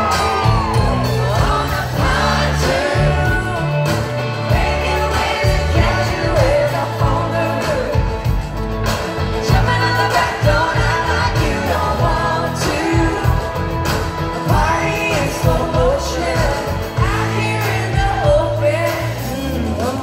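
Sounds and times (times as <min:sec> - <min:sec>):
steady drum beat: 0:00.0 - 0:19.2
bass: 0:00.0 - 0:20.0
electric guitars: 0:00.0 - 0:20.0
person singing: 0:00.0 - 0:20.0.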